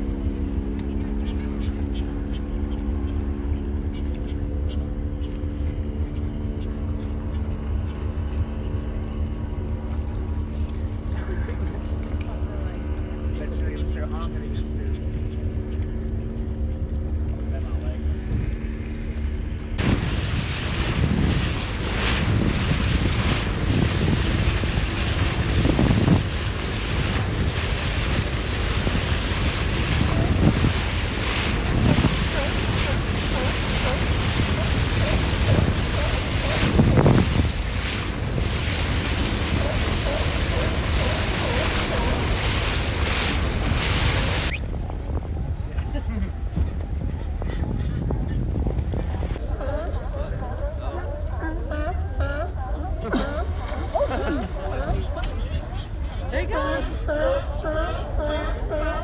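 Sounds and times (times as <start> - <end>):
wind buffeting microphone: 0.0 - 51.3, 53.1 - 59.0
boat engine running: 0.0 - 51.5, 53.0 - 59.0.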